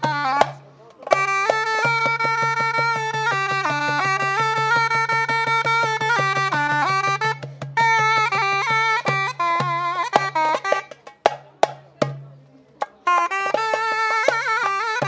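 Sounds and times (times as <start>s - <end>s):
sharp percussive strokes: 0.0s - 15.0s
zurna folk melody: 0.0s - 15.0s.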